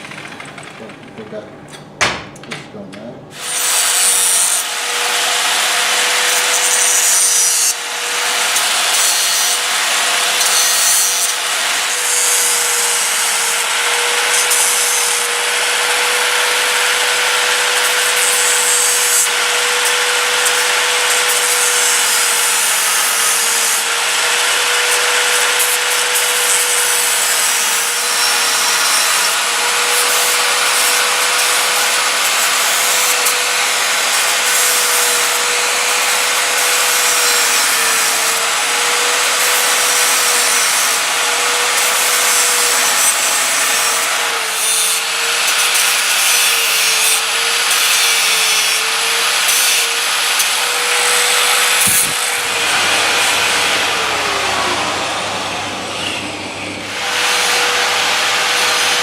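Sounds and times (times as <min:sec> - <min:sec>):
grinder cutting steel: 0:00.0 - 0:00.9, 0:03.3 - 0:59.0.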